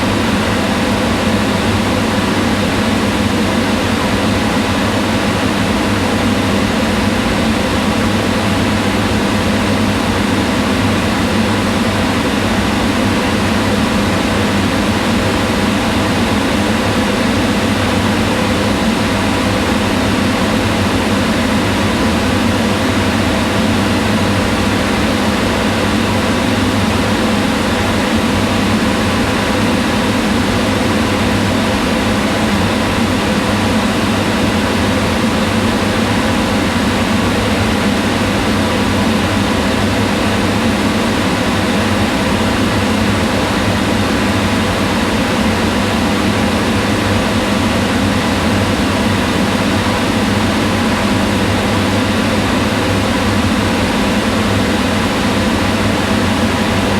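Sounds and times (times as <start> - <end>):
range hood fan whirring: 0.0 - 56.9.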